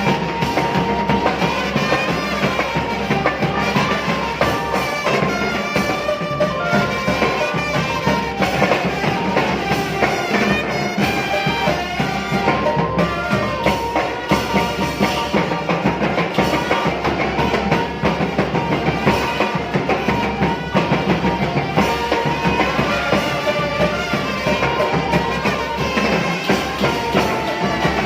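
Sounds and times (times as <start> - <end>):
brass band playing: 0.0 - 28.0
horn melody: 0.0 - 28.0
steady drum beat: 0.0 - 28.0.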